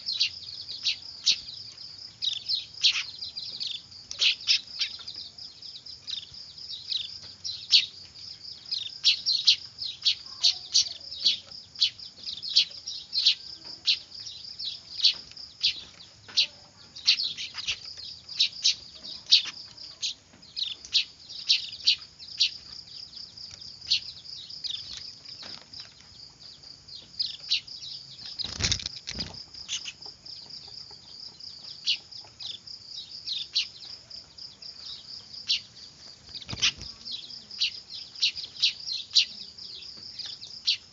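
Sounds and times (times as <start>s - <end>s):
bird chicks chirping: 0.0s - 40.9s.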